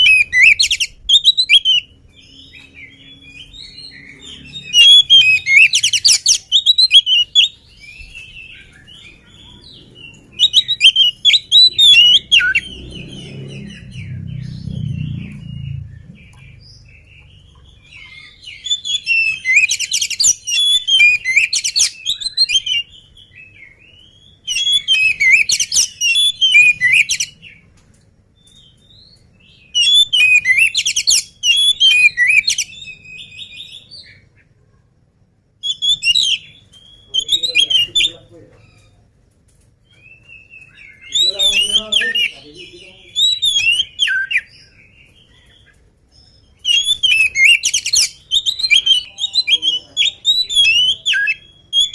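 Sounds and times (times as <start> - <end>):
bird singing: 0.0 - 34.9, 35.5 - 39.2, 39.8 - 51.9.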